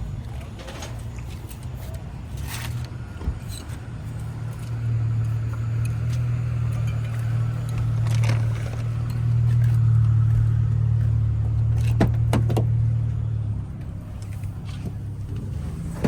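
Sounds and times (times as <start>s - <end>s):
car engine humming: 0.0s - 16.0s.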